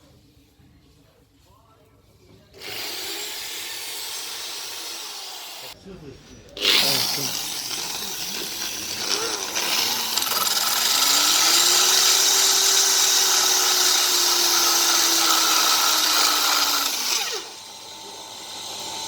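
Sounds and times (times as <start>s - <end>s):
power tool motor whine: 2.6s - 5.8s, 6.6s - 19.0s.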